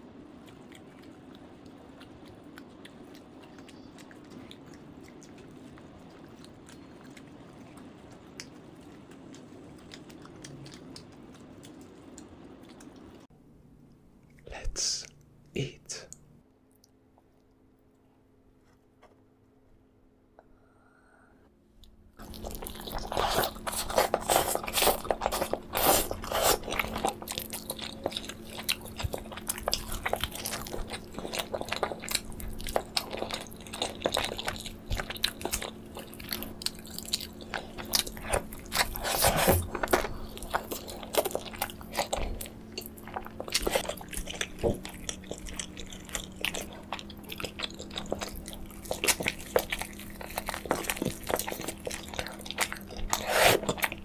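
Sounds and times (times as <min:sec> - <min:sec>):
person chewing: 0:00.0 - 0:13.3, 0:21.8 - 0:54.0.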